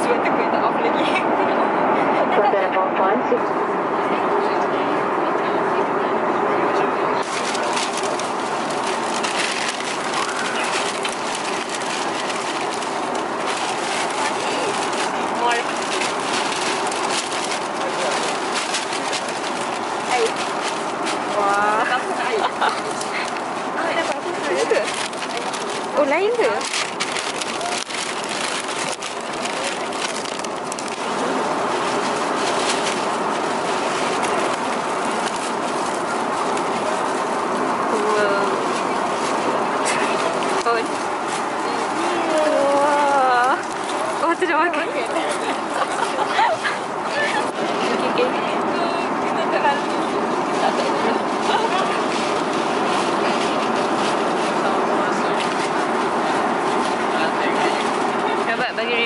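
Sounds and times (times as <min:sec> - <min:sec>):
airliner cabin hum: 0:00.0 - 0:58.5
plastic and foil crinkling: 0:07.2 - 0:59.0
plastic bag rustling: 0:07.2 - 0:59.0.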